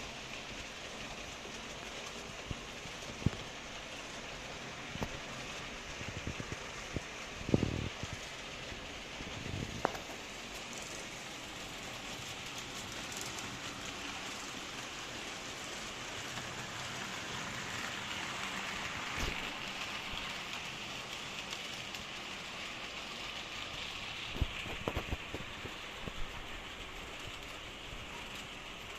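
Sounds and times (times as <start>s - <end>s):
model trains rolling hiss: 0.0s - 28.9s
wheels clicking over rail joints: 0.0s - 28.9s.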